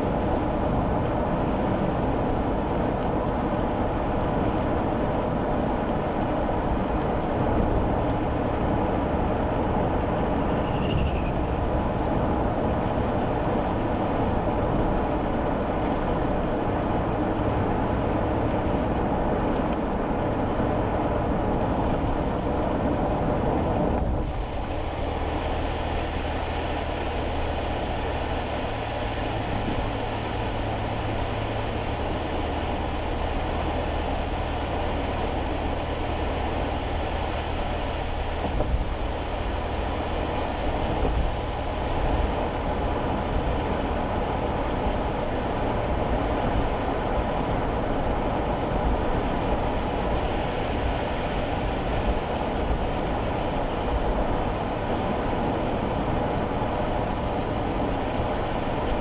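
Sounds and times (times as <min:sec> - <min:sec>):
small car engine hum: 0:00.0 - 0:59.0
tyre noise on wet road: 0:00.0 - 0:59.0.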